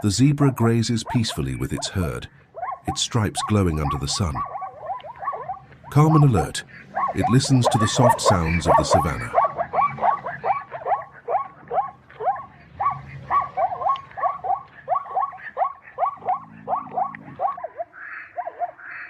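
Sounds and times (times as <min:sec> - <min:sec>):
zebra barking calls: 0:00.0 - 0:19.0.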